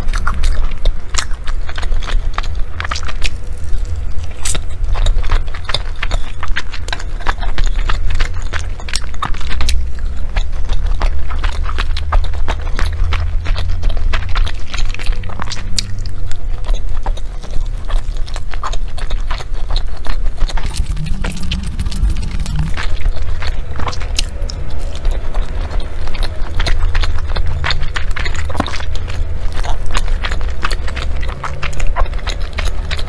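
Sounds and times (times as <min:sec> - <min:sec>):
wet chewing and mouth clicks: 0:00.0 - 0:33.0
low rumble: 0:00.2 - 0:12.0, 0:12.6 - 0:33.0.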